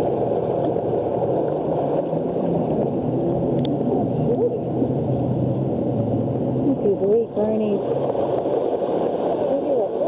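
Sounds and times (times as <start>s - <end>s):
choppy sea water: 0.0s - 10.0s.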